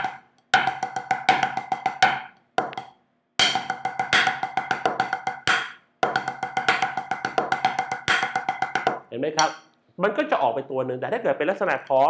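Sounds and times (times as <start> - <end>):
drumsticks on practice pad: 0.0 - 9.7.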